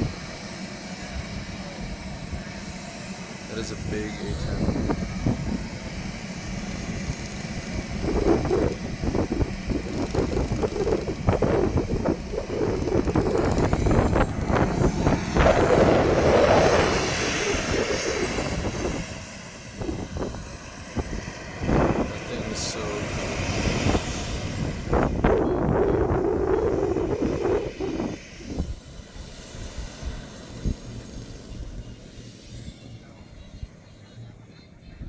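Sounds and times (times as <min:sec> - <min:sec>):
model jet turbines whining: 0:00.0 - 0:35.0.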